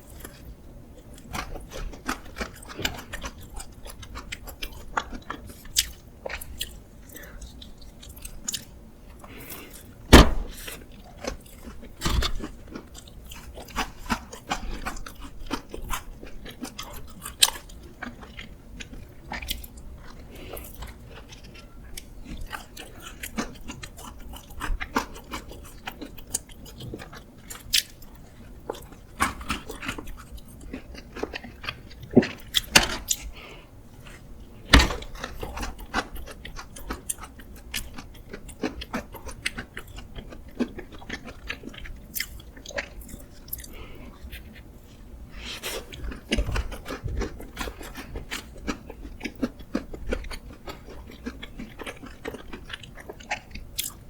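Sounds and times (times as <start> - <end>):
chewing and biting cake: 0.0 - 54.0.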